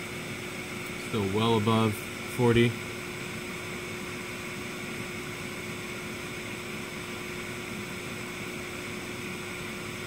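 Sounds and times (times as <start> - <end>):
cooling fans whirring: 0.0 - 10.0.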